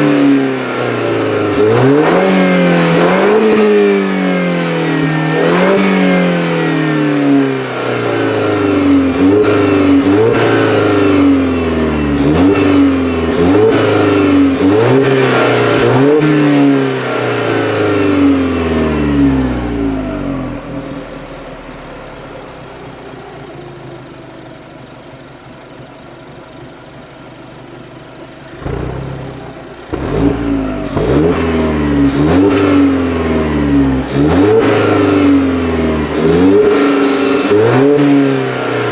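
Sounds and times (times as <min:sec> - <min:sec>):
car engine revving in blips: 0:00.0 - 0:22.2, 0:28.4 - 0:38.9
engine idling: 0:00.0 - 0:38.9.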